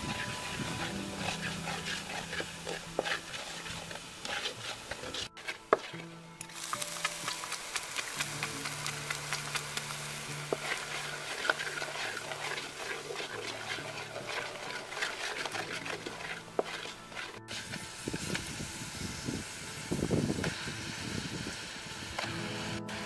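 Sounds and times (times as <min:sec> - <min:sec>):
spatula scraping in a wok: 0:00.0 - 0:20.0
meat sizzling in a wok: 0:00.0 - 0:23.0
sauce bubbling and sizzling: 0:00.0 - 0:23.0.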